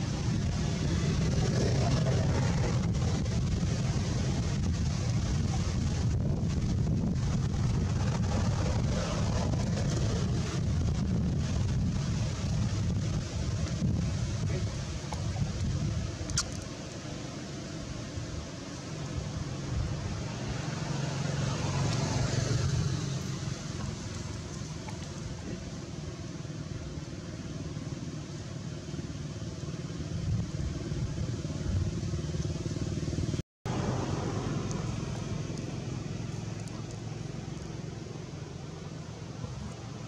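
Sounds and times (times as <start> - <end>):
vehicle engine rumble: 0.0 - 40.0.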